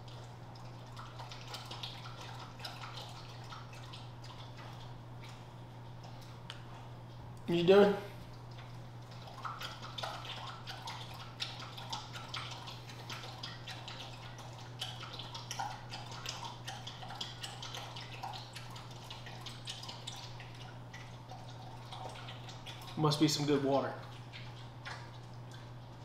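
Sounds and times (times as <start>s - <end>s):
dog lapping water: 0.0s - 26.0s
steady low hum: 0.0s - 26.0s.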